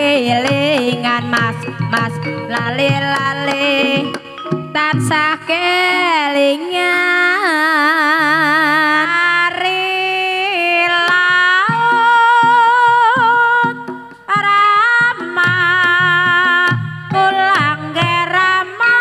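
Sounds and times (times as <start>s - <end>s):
instrumental accompaniment: 0.0s - 7.8s, 10.3s - 19.0s
woman singing with vibrato: 0.0s - 19.0s.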